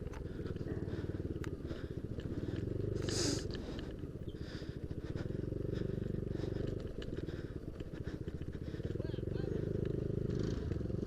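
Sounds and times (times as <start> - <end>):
scooter engine running under load: 0.0 - 11.0.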